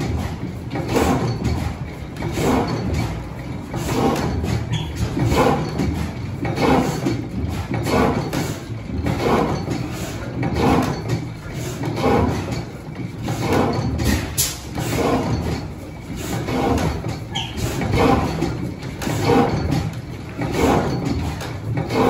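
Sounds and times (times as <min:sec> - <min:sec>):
stationary engine exhaust beat: 0:00.0 - 0:22.0.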